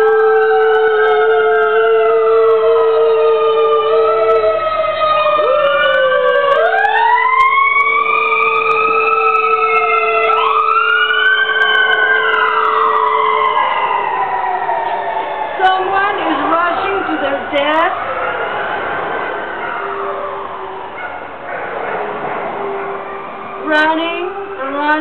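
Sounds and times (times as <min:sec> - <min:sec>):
sliding siren-like tones: 0:00.0 - 0:25.0.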